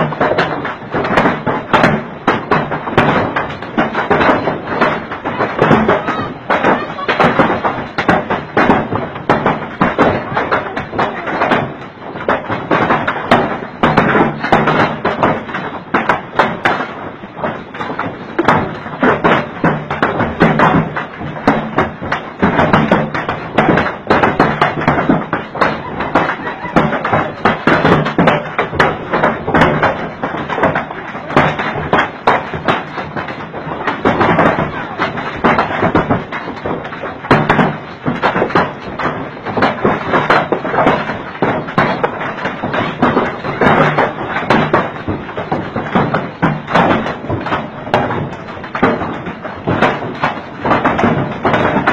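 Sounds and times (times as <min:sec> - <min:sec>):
hail clattering on hard surfaces: 0:00.0 - 0:51.9.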